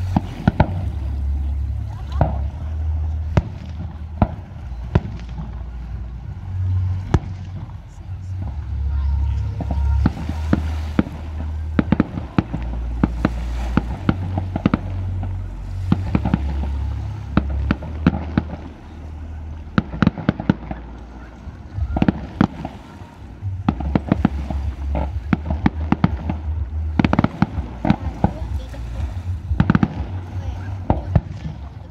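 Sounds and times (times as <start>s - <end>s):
fireworks bangs and crackling: 0.0s - 6.2s, 9.4s - 31.9s
low rumble: 0.0s - 31.9s.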